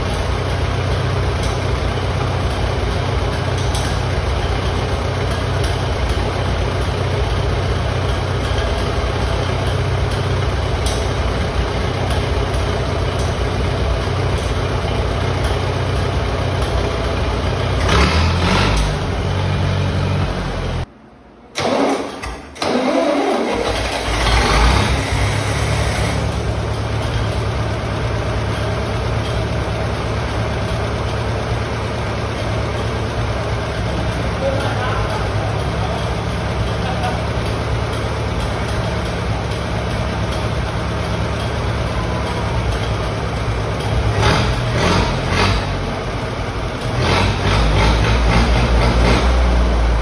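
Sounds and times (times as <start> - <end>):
tractor engine idling and revving: 0.0 - 20.9, 21.6 - 50.0.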